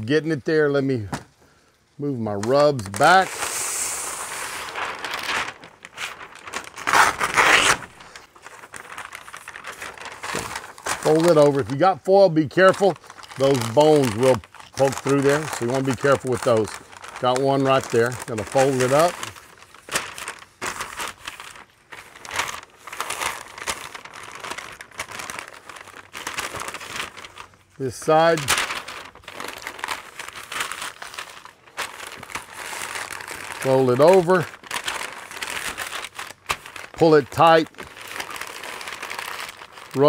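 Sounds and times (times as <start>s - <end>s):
paper pulled off a roll: 2.2s - 11.9s, 12.6s - 40.0s
paper rustling: 2.2s - 40.0s
paper tearing: 2.4s - 11.7s, 12.8s - 40.0s.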